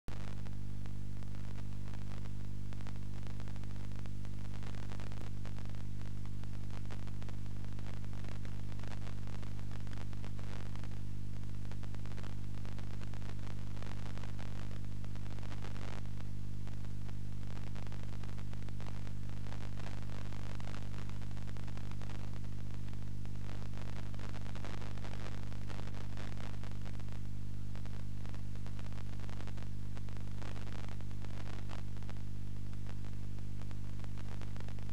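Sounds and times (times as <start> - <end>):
low buzz with static hiss: 0.1 - 34.9.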